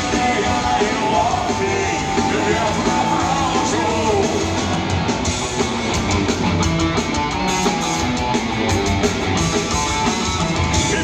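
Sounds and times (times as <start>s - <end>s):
drums: 0.0s - 11.0s
electric guitars: 0.0s - 11.0s.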